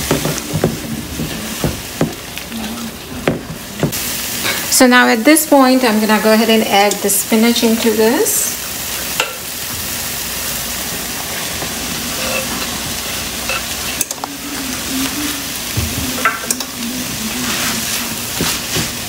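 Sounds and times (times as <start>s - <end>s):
masala sizzling in a frying pan: 0.0s - 19.0s.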